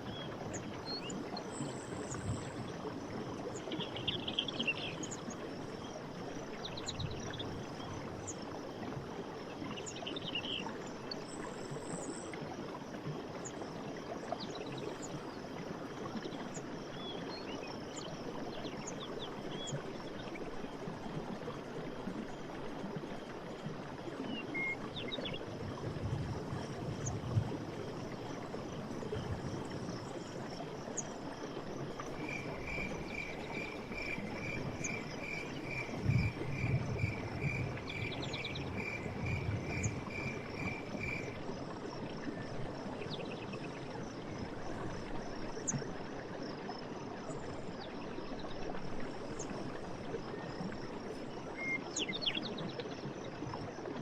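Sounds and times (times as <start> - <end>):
stream water running: 0.0 - 54.0.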